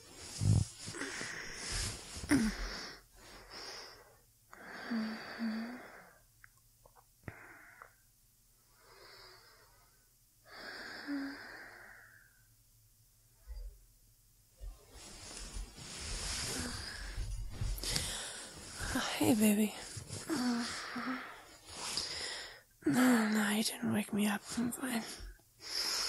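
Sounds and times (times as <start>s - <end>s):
woman breathing slowly: 0.0s - 6.3s, 7.2s - 12.5s, 14.9s - 23.4s, 24.4s - 26.0s.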